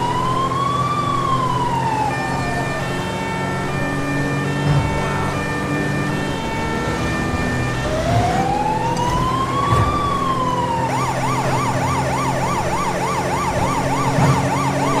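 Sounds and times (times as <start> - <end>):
police siren wailing and yelping: 0.0 - 15.0.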